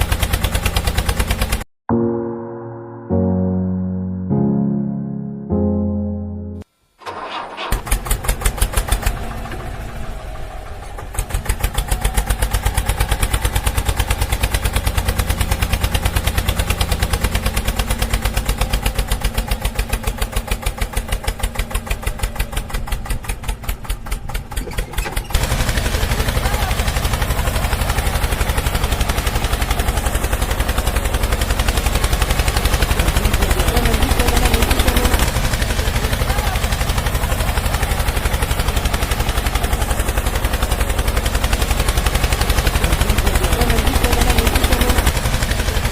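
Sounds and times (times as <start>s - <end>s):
tractor engine thudding: 7.0s - 45.8s.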